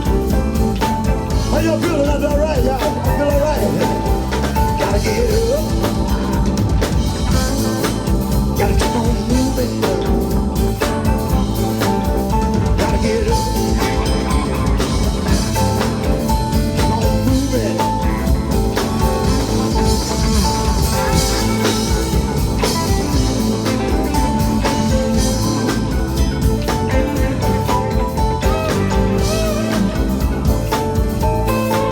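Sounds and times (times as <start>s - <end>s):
blues band playing: 0.0s - 31.9s
electric guitar: 0.0s - 31.9s.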